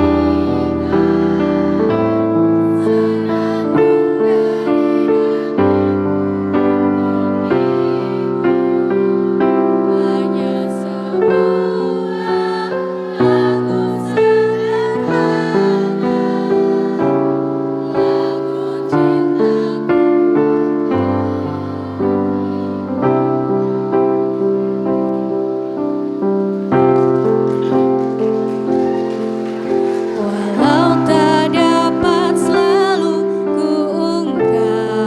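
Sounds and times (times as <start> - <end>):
choir singing faintly: 0.0 - 35.0
slow piano chords: 0.0 - 35.0.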